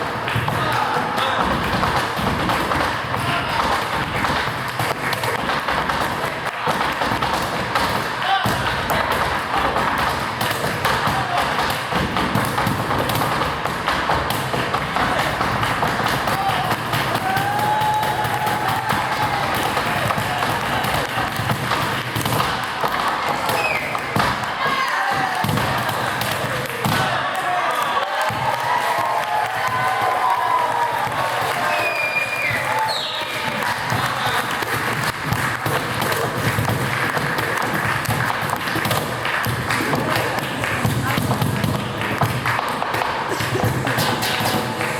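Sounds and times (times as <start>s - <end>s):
crowd noise: 0.0s - 44.9s
rhythmic hand clapping: 0.0s - 44.9s
cajon thumps and taps: 0.2s - 27.1s, 28.3s - 44.9s.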